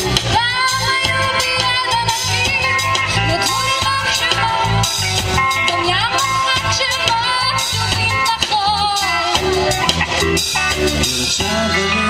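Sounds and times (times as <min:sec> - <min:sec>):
live rock band playing: 0:00.0 - 0:12.0
sliding melodic lead line: 0:00.0 - 0:12.0.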